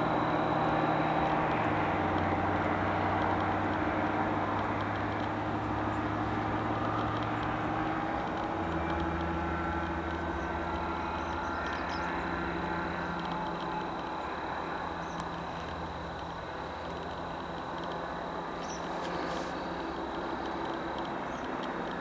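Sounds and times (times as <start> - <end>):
light aircraft engine droning: 0.0 - 22.0.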